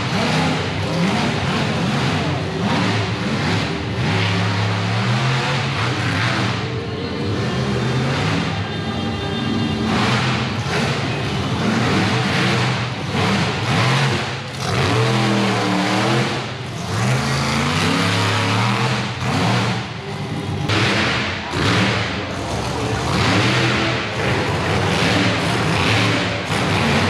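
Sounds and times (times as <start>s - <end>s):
truck engine revving hard: 0.0s - 8.6s, 9.7s - 27.0s.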